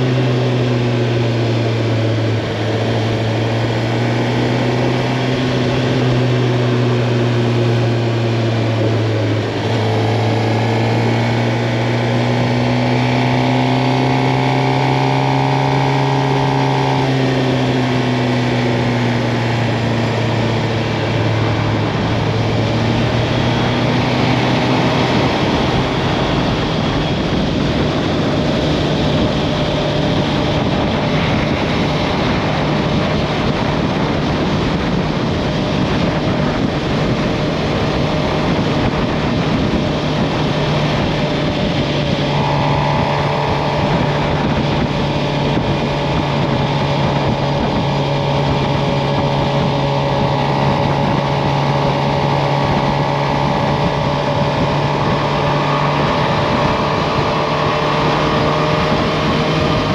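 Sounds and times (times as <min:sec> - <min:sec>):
higher engine hum: 0:00.0 - 0:59.9
motorcycle engine running: 0:00.0 - 0:59.9
wind noise: 0:00.0 - 0:59.9.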